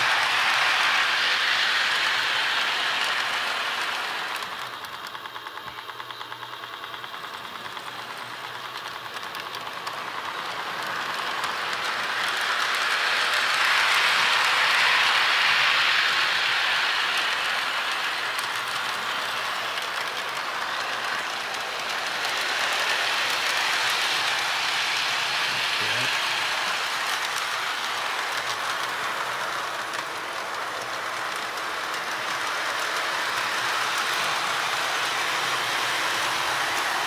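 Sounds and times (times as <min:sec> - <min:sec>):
toy train wheels rattling on rail: 0:00.0 - 0:37.0.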